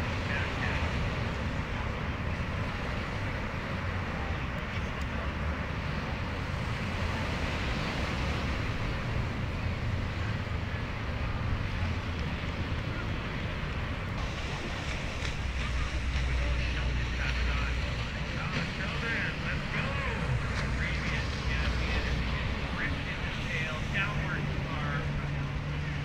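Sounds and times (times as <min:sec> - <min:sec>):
ocean surf: 0:00.0 - 0:26.0
wind rumbling on microphone: 0:00.0 - 0:26.0.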